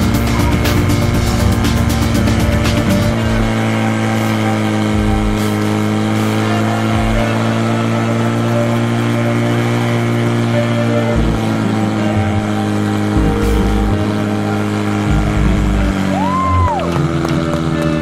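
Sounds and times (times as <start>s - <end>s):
pump engine running at high revs: 0.0s - 18.0s.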